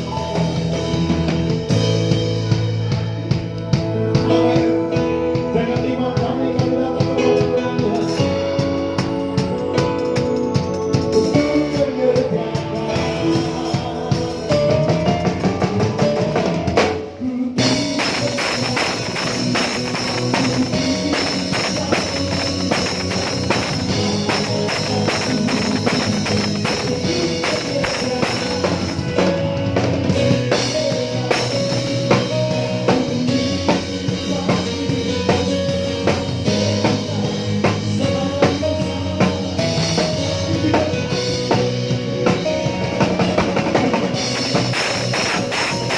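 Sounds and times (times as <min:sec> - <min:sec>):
bass drum and rimshots: 0:00.0 - 0:45.9
live band playing worship song: 0:00.0 - 0:45.9.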